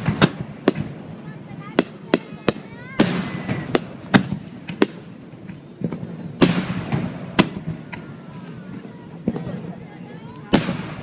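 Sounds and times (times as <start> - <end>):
firework shells bursting: 0.0 - 9.8
firework crackling: 0.0 - 11.0.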